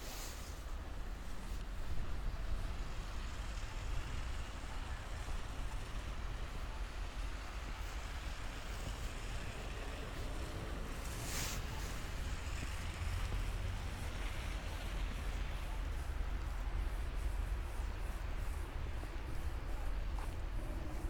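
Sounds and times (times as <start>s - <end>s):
wind rushing in snowstorm: 0.0s - 21.0s.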